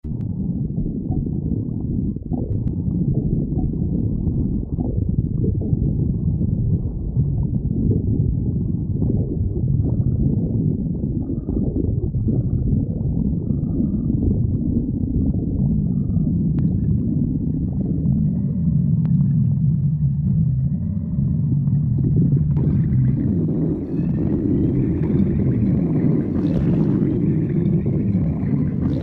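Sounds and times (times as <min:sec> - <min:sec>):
stomach growling: 0:00.0 - 0:29.0.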